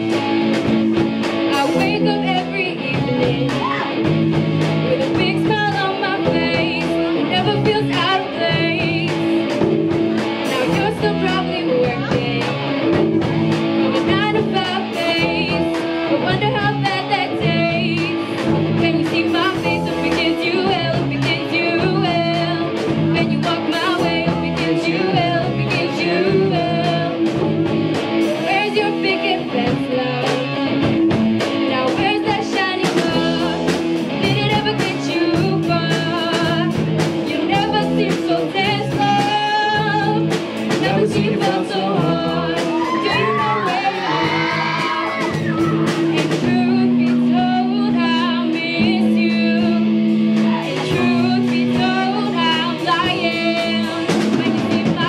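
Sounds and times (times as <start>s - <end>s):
drum kit: 0.0s - 55.0s
electric guitars: 0.0s - 55.0s
woman singing: 1.4s - 4.1s, 4.8s - 9.6s, 10.4s - 12.7s, 13.9s - 27.4s, 28.3s - 55.0s.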